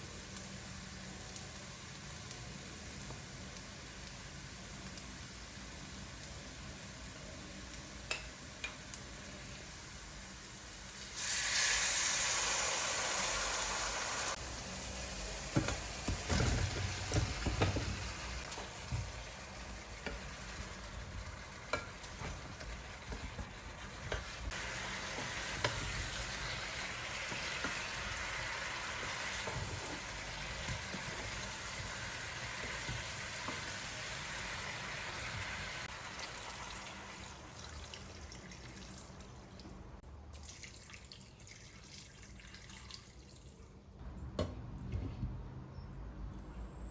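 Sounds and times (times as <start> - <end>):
food sizzling in a pan: 0.0 - 38.6.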